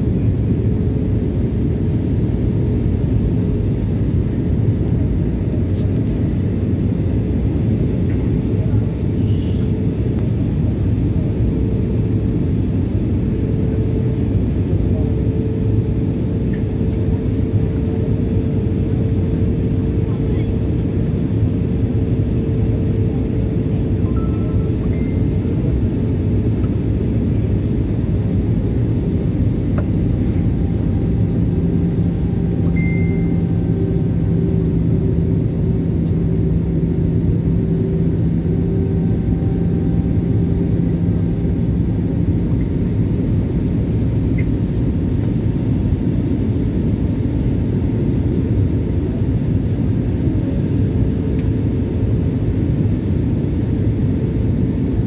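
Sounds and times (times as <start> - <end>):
airplane cabin engine rumble: 0.0 - 55.0
steady low hum: 0.0 - 55.0.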